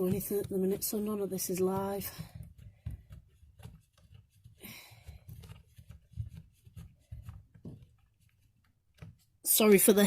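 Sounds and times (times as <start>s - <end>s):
handling clicks and rubbing: 0.0s - 9.4s.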